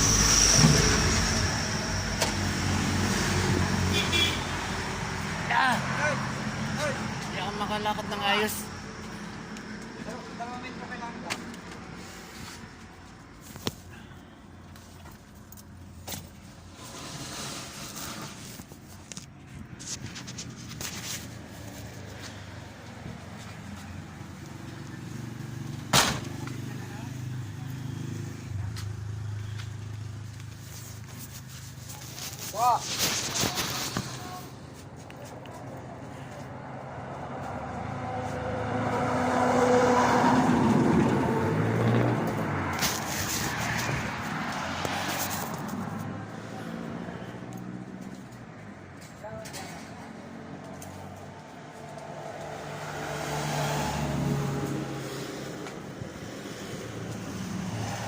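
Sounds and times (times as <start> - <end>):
motor vehicle passing by: 0.0 - 12.8, 19.7 - 58.0.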